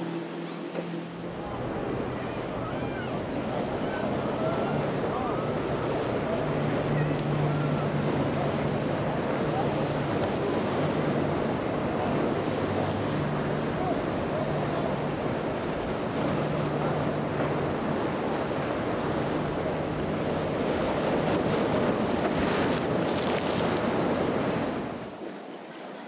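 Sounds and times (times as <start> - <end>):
boat engines humming: 0.0 - 26.0
surf rushing: 0.0 - 26.0.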